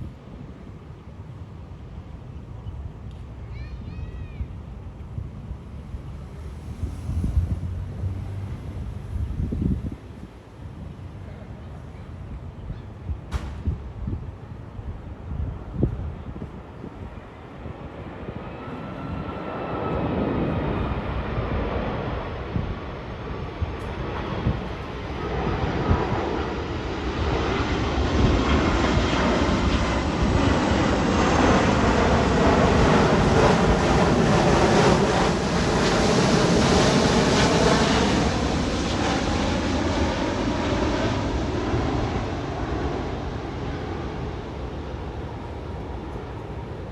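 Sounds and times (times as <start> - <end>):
jet engines roaring past: 4.4 - 46.9.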